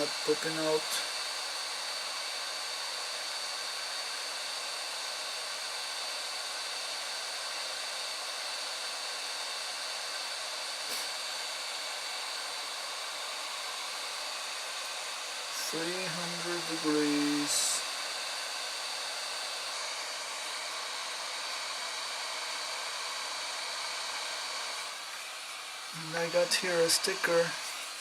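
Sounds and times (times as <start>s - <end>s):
hot air blower hissing: 0.0s - 28.0s
thin high fan whine: 0.0s - 28.0s.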